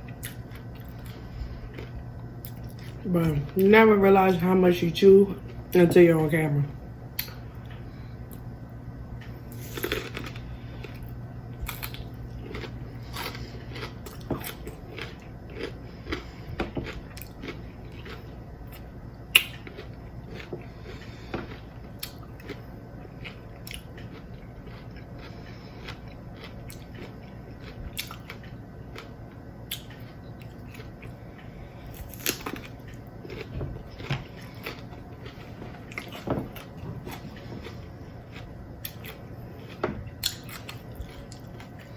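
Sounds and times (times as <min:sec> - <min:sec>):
chewing and crunching chips: 0:00.0 - 0:06.6, 0:09.2 - 0:41.9.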